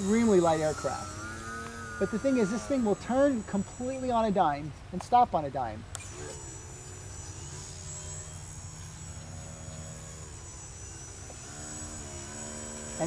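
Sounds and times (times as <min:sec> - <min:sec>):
model plane motor buzzing: 0:00.0 - 0:13.0.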